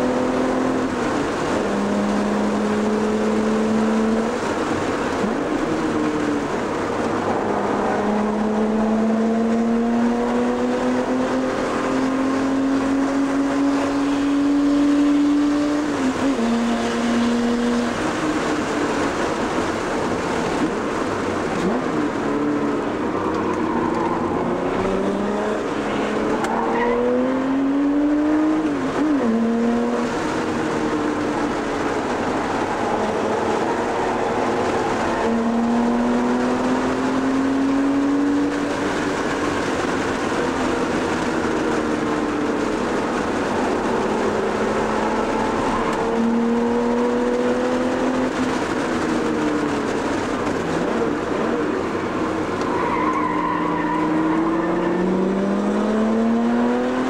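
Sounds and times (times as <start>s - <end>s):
car engine accelerating: 0.0s - 57.0s
road and wind noise: 0.0s - 57.0s.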